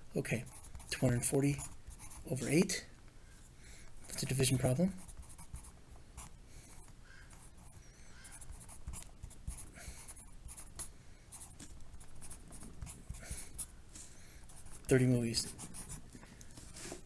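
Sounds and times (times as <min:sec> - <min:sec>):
pencil scratching on paper: 0:00.4 - 0:02.7, 0:05.0 - 0:17.0.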